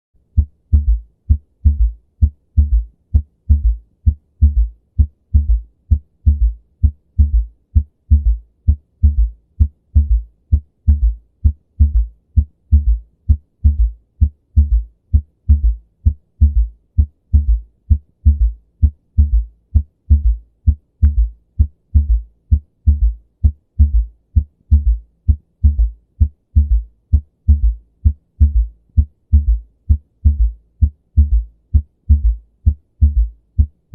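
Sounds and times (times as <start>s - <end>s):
heartbeat galloping thuds: 0.2s - 33.9s.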